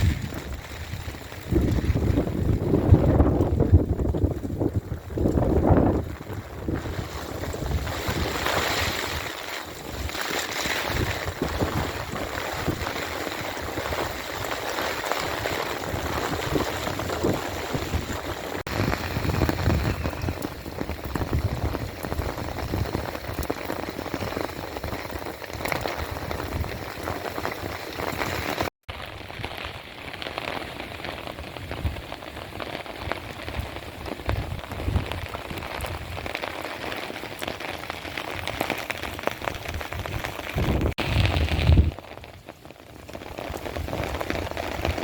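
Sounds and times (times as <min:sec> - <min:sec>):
heavy rain pattering: 0:00.0 - 0:45.0.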